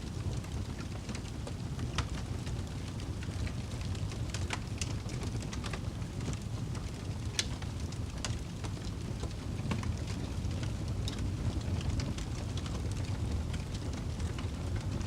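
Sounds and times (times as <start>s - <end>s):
campfire flames rumbling: 0.0s - 15.0s
fire crackles and pops: 0.0s - 15.0s.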